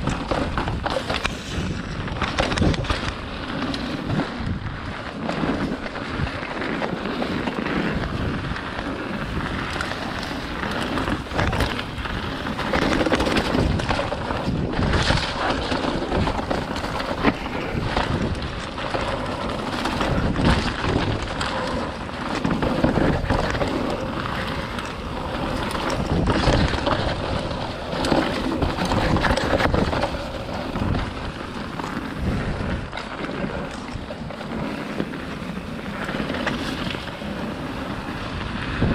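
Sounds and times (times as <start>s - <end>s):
bike rattling over bumps: 0.0s - 38.9s
bike tyres rolling over leaves: 0.0s - 38.9s
wind buffeting microphone: 0.0s - 38.9s.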